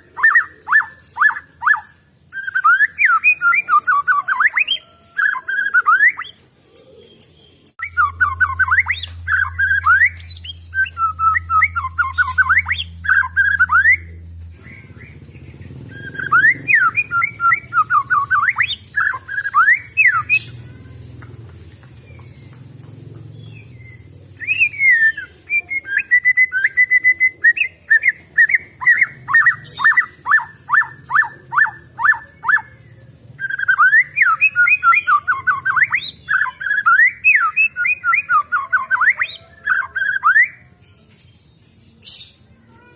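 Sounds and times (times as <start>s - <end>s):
songbird singing whistled phrases: 0.2s - 20.6s, 23.4s - 41.0s.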